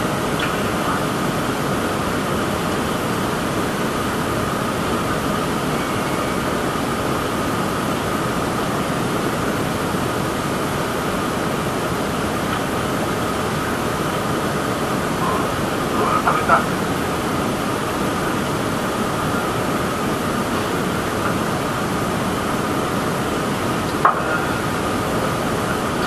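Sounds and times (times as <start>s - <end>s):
faint high whine: 0.0s - 26.0s
steady rushing noise: 0.0s - 26.0s.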